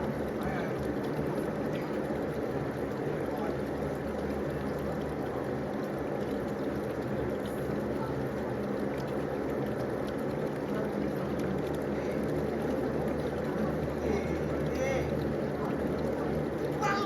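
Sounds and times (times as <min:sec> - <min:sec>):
pool water pouring: 0:00.0 - 0:17.0.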